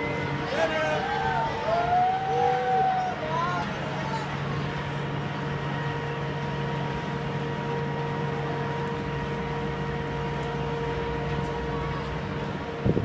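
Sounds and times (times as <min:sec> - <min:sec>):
roller coaster lift droning hum: 0:00.0 - 0:13.0.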